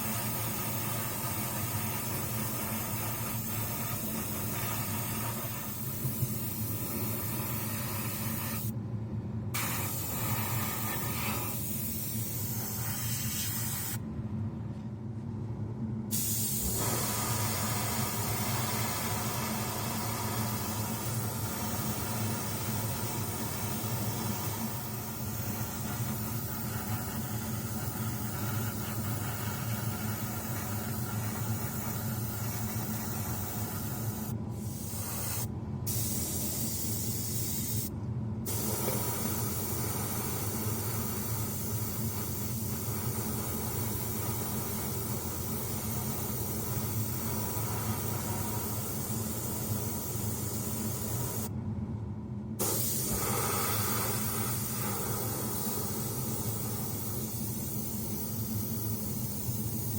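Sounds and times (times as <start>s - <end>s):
airbrush spraying hiss: 0.0s - 8.7s, 9.6s - 14.0s, 16.1s - 37.9s, 38.5s - 51.5s, 52.6s - 59.9s
air compressor humming: 0.0s - 8.8s, 9.5s - 14.1s, 16.1s - 51.6s, 52.6s - 59.9s.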